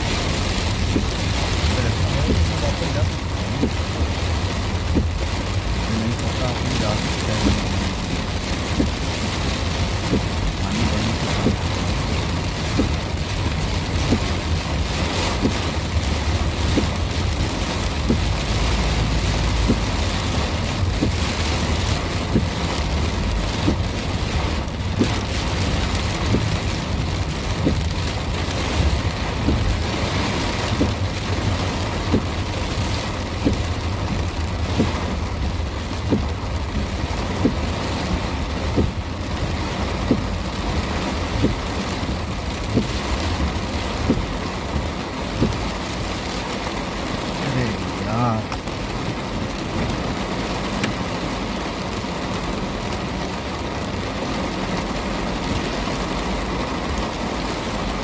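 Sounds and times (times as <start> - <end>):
car rumbling on wet road: 0.0 - 58.0
rain pattering on a car roof: 0.0 - 58.0.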